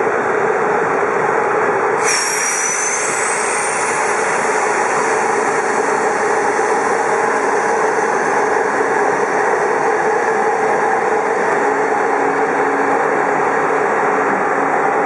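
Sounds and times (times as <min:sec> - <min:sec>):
train running: 0:00.0 - 0:15.0
high whine rising in pitch: 0:02.0 - 0:15.0.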